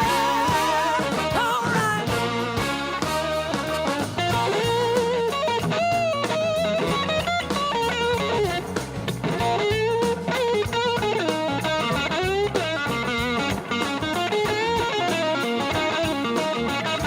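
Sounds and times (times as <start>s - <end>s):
bass guitar: 0.0s - 17.0s
drums: 0.0s - 17.0s
electric guitar lead: 0.0s - 17.0s.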